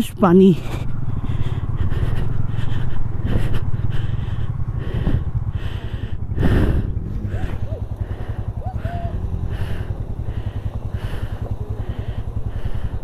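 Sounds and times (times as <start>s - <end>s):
motorcycle engine chugging: 0.0s - 13.0s.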